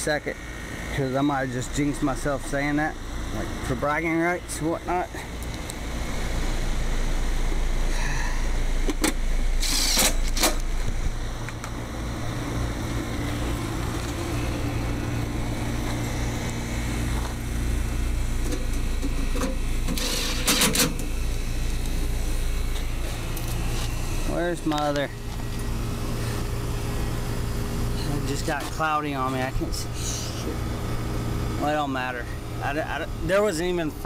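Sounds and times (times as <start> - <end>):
air conditioner unit humming: 0.0 - 34.0.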